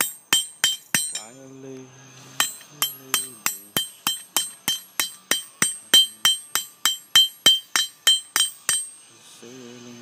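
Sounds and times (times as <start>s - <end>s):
hammer striking steel on anvil: 0.0s - 1.5s, 2.4s - 9.1s.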